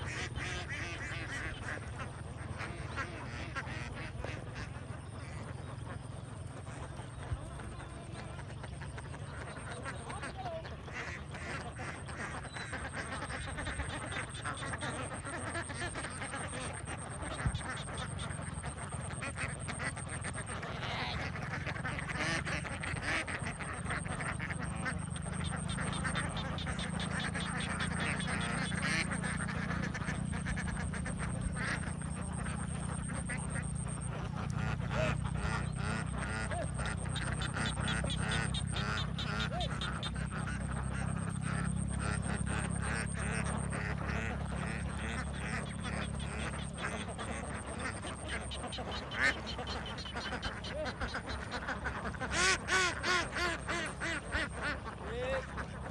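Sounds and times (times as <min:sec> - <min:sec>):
ducks quacking: 0:00.0 - 0:55.9.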